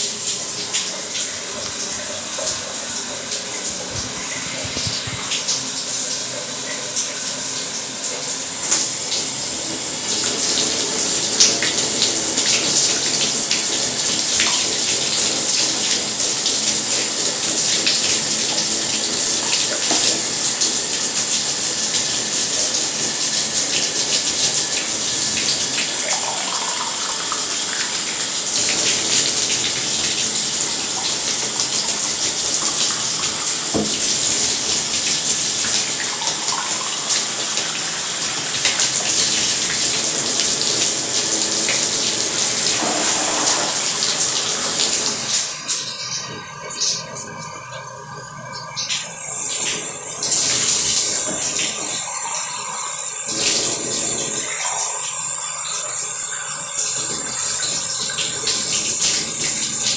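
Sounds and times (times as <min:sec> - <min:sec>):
water dripping: 0:00.0 - 0:59.9
water running and splashing: 0:00.0 - 0:59.9.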